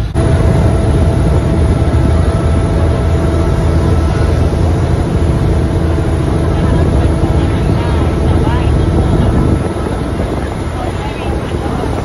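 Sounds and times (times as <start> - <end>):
boat engine drone: 0.0 - 12.0
steady engine whine: 0.0 - 12.0.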